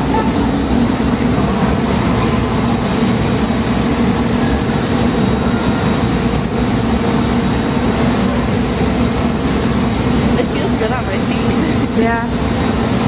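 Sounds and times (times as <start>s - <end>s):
fan-driven wind rushing: 0.0s - 13.0s.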